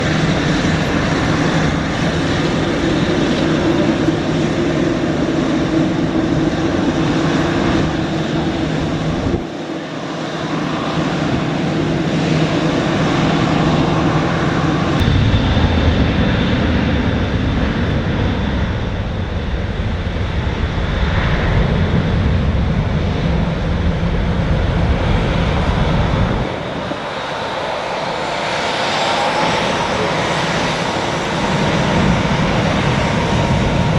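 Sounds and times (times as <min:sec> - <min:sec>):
airliner engines running: 0:00.0 - 0:33.9.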